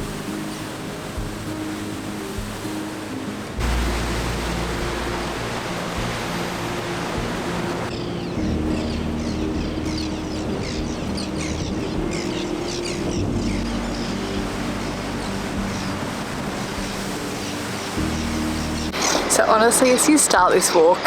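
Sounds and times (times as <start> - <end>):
low sustained tones: 0.0 - 21.0
sea surf on rocks: 0.0 - 21.0.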